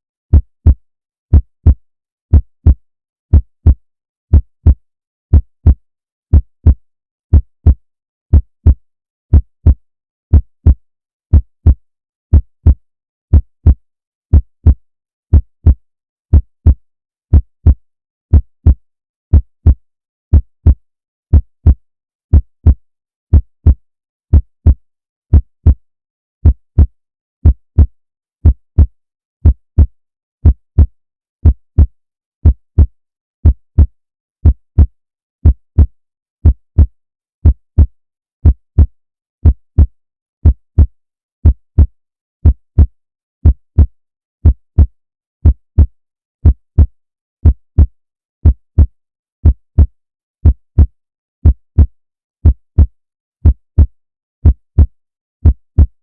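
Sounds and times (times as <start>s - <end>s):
heartbeat thumps: 0.3s - 25.8s, 26.4s - 55.9s.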